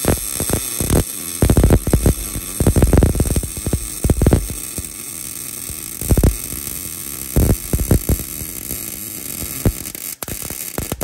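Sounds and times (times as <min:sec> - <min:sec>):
welder arc crackling: 0:00.0 - 0:11.0.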